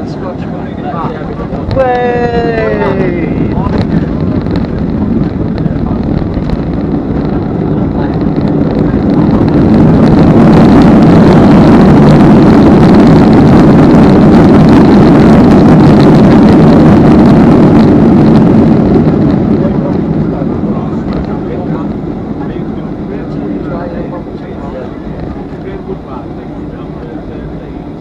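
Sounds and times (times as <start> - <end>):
jet engines in reverse thrust: 0.0 - 28.0.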